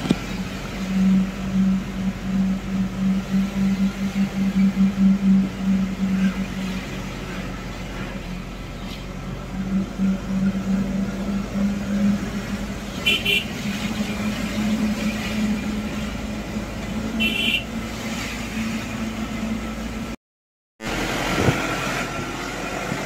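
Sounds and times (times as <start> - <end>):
road and wind noise: 0.0 - 20.2, 20.8 - 23.0
vehicle engine droning: 0.0 - 20.2, 20.8 - 23.0.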